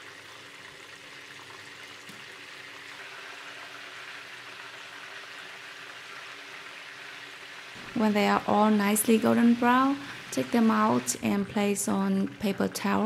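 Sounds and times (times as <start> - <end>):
quail deep-frying in hot oil: 0.0 - 13.0.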